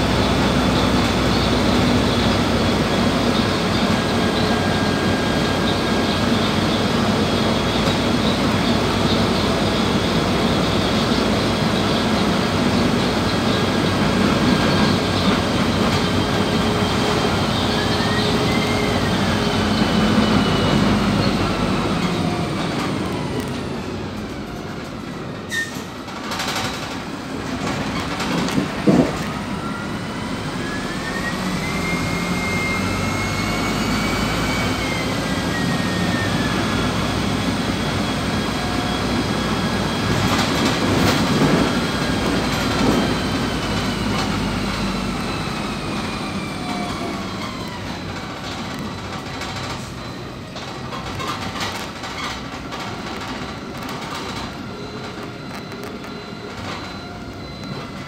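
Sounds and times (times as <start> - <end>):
bus drivetrain whine: 0.0 - 58.0
road rumble: 0.0 - 58.0.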